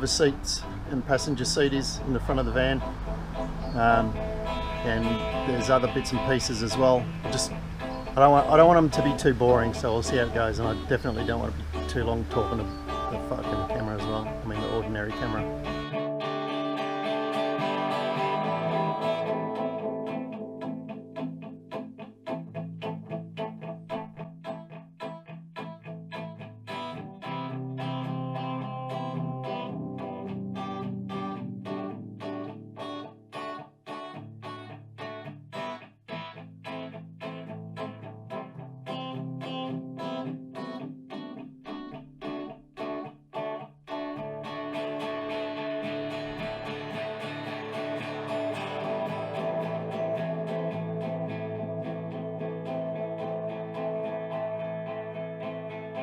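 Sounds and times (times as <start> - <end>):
guitar-led background music: 0.0 - 56.0.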